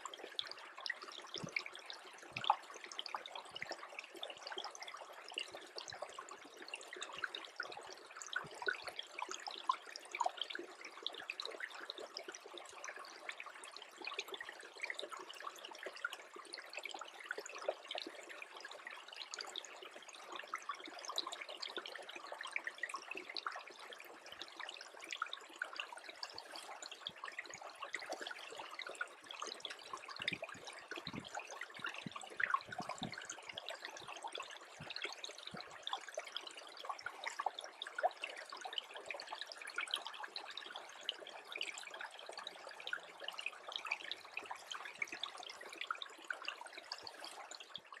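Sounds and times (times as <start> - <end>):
stream water trickling: 0.0 - 48.0.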